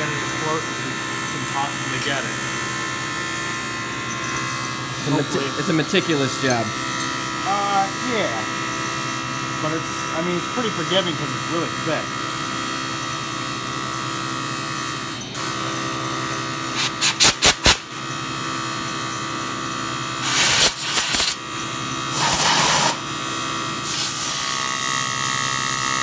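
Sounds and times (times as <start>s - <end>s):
grinder grinding on metal: 0.0s - 12.4s, 15.4s - 17.8s, 20.0s - 26.0s
electric grinder whining: 0.0s - 17.0s, 17.8s - 26.0s.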